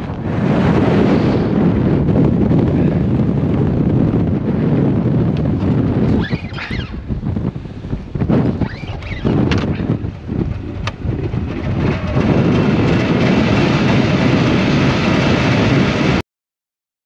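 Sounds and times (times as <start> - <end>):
strong wind buffeting microphone: 0.0 - 16.2.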